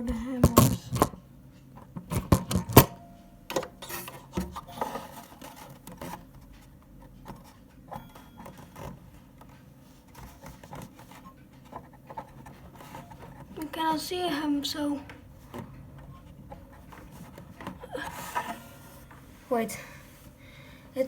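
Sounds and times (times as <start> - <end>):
clock movement clicks and knocks: 0.0 - 19.7.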